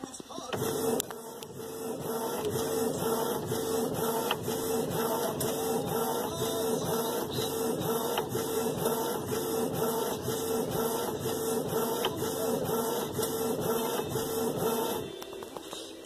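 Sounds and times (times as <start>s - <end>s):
inkjet printer printing: 0.0s - 16.0s.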